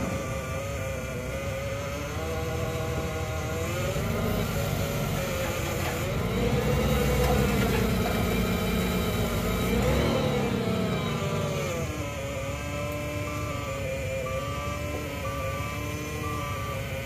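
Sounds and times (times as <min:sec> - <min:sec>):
forklift engine revving: 0:00.0 - 0:17.0.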